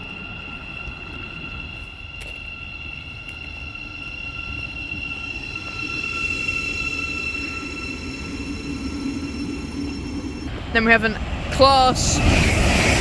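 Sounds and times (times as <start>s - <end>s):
electric train whine: 0.0s - 13.0s
train low rumble: 0.0s - 13.0s.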